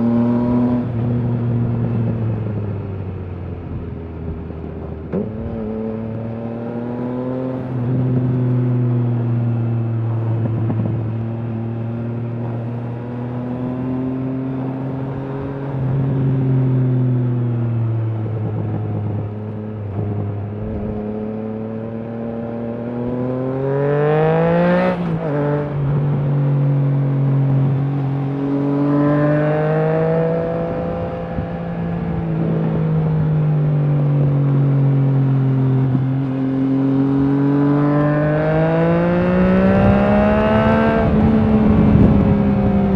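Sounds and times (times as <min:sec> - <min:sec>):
motorcycle engine revving: 0:03.5 - 0:42.9.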